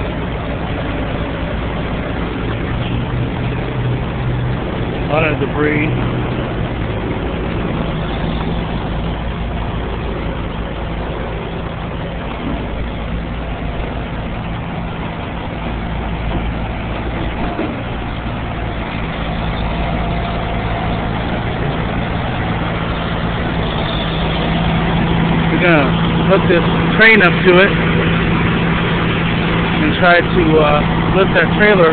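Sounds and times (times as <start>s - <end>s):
open-air noise: 0.0s - 31.9s
truck diesel engine idling: 0.0s - 31.9s.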